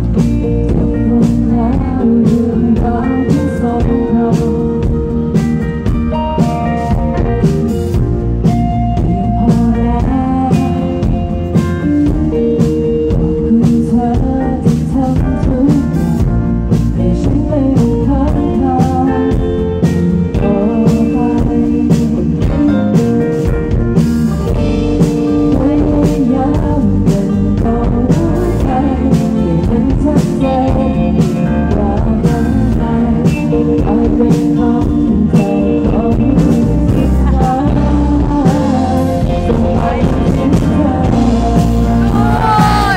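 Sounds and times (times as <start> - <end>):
person singing: 0.0 - 7.8, 8.6 - 23.5, 24.4 - 42.9
drum kit beat: 0.0 - 42.9
electric bass: 0.0 - 42.9.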